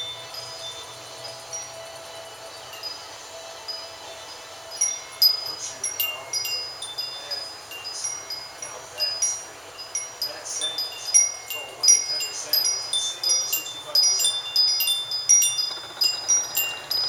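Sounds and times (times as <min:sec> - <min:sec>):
metal wind chimes ringing: 0:00.0 - 0:17.0.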